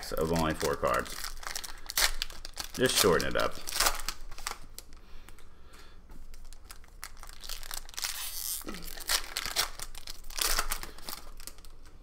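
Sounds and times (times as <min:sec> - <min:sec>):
foil wrappers crinkling and tearing: 0:00.0 - 0:05.0, 0:06.2 - 0:11.9.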